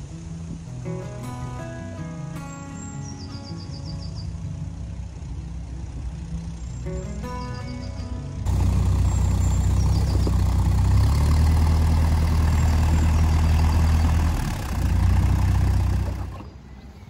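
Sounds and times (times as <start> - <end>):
diesel engine at low revs: 0.0 - 17.0.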